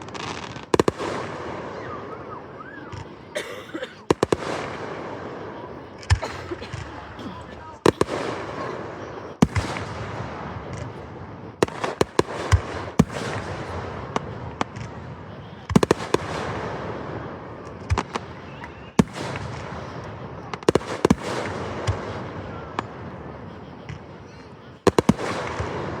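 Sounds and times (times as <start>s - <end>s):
firework crackling tail: 0.0s - 26.0s.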